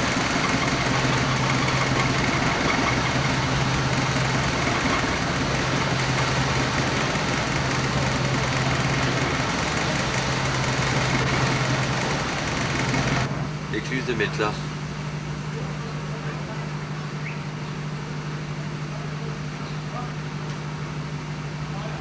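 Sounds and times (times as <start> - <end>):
diesel engine hum: 0.0 - 22.0.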